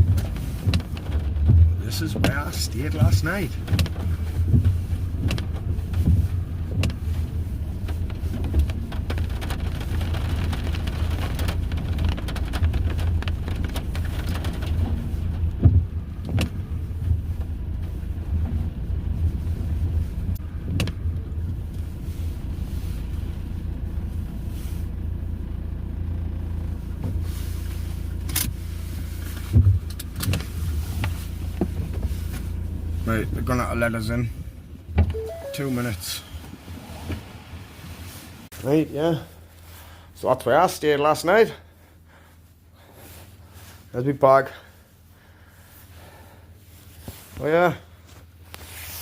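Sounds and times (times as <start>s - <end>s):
vehicle engine rumbling: 0.0s - 49.0s.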